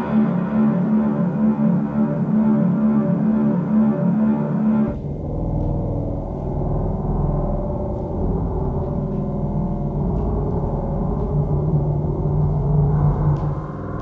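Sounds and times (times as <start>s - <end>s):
electronic drone: 0.0s - 14.0s.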